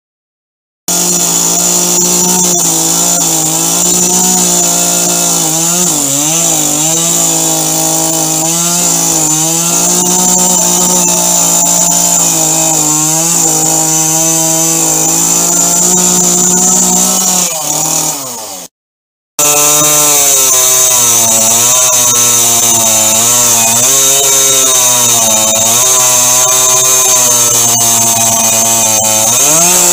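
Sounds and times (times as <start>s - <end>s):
chainsaw engine whine: 0.9s - 18.7s, 19.4s - 29.9s.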